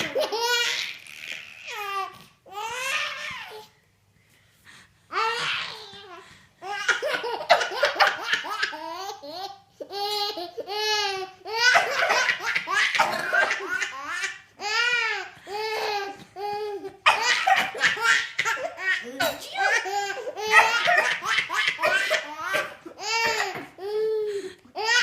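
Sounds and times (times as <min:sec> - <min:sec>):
baby laughing: 0:00.0 - 0:03.4, 0:06.6 - 0:25.0.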